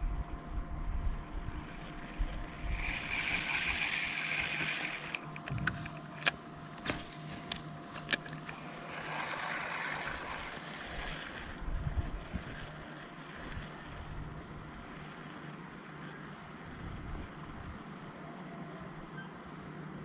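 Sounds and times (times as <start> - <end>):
soft rush of water or wind: 0.0 - 5.2, 5.8 - 20.0
steady low hum: 0.0 - 20.0.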